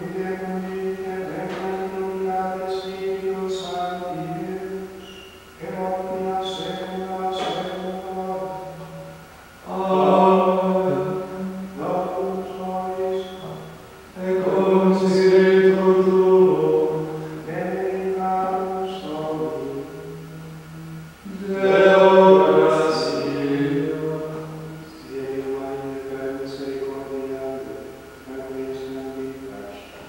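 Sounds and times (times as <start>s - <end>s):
male choir chanting in unison: 0.0s - 5.0s, 5.6s - 9.0s, 9.6s - 29.6s.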